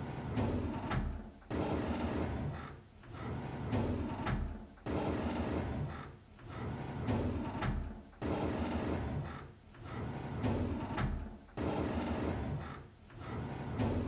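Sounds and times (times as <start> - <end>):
drawer sliding open on runners: 0.0 - 14.0.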